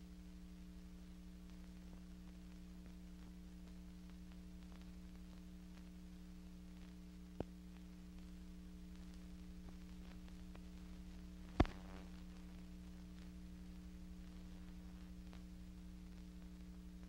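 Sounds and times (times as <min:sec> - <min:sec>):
faint crackles: 0:00.0 - 0:17.0
low electrical hum: 0:00.0 - 0:17.0.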